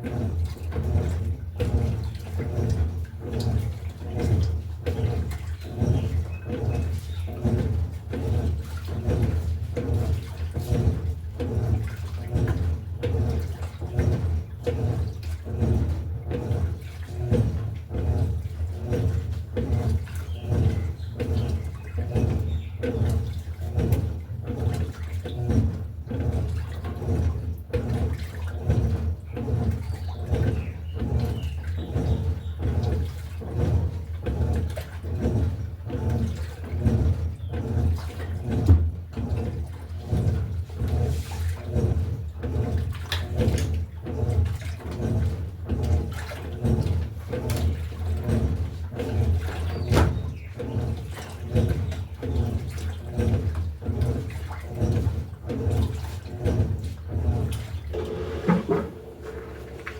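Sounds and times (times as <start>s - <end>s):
washing machine motor hum: 0.0s - 59.9s
water swishing and sloshing: 0.0s - 59.9s.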